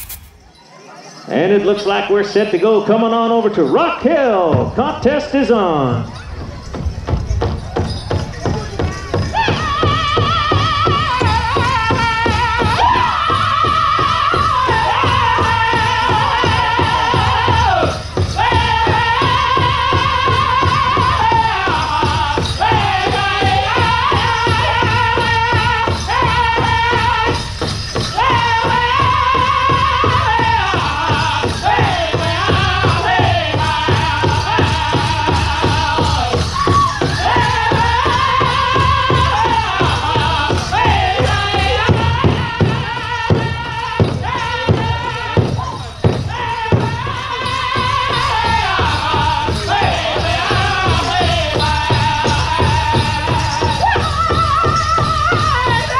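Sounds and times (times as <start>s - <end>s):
large drum beating steadily: 5.9s - 55.9s
singers in high bending voices: 9.2s - 55.9s.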